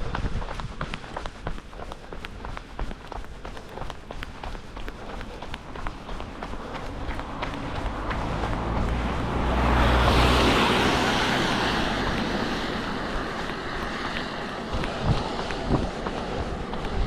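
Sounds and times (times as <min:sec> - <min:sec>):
car passing on wet road: 0:02.0 - 0:17.0.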